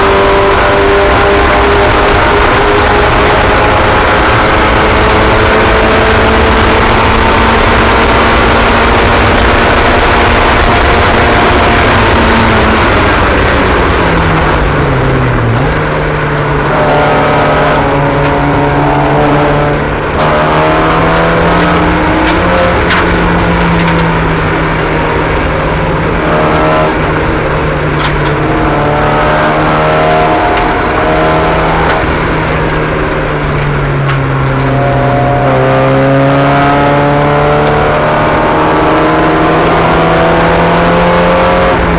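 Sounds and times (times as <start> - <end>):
race car engines: 0.0 - 41.9.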